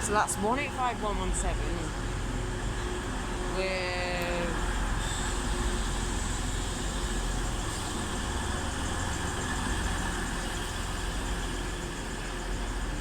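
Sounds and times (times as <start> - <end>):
diesel train engines rumbling: 0.0 - 13.0.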